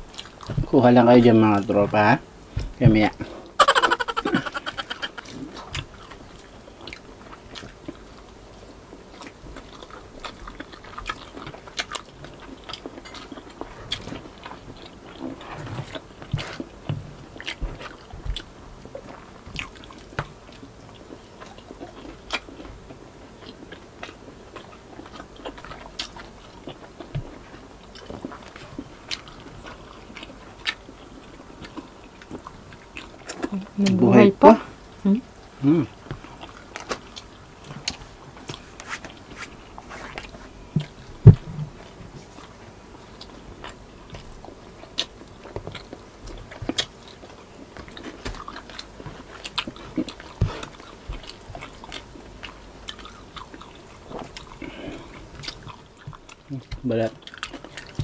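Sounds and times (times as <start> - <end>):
crunchy chewing and biting: 3.6 - 33.6, 35.5 - 58.0.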